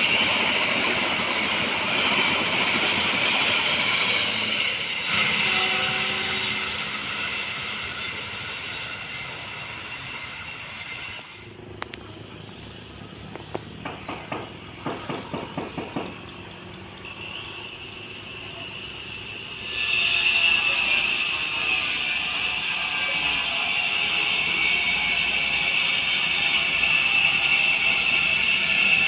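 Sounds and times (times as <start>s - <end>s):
sharp clacks of train: 0.0s - 12.1s, 13.4s - 29.0s
train running noise: 0.0s - 29.0s.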